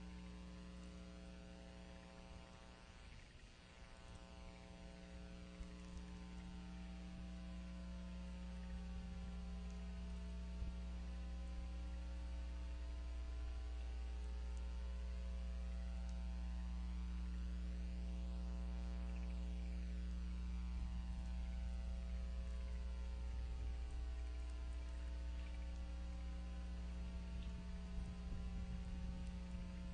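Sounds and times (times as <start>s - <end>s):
electrical mains hum: 0.0s - 29.9s.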